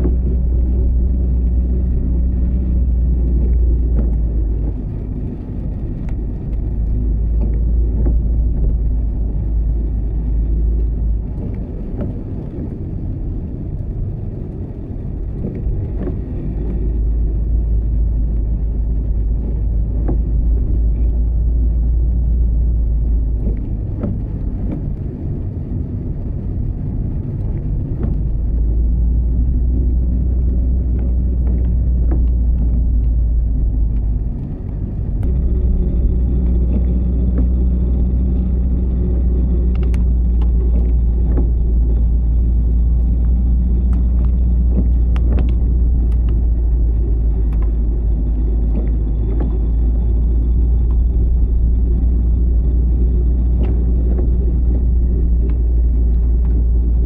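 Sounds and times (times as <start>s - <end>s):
light ticks: 0.0s - 57.0s
vehicle engine rumbling: 0.0s - 57.0s.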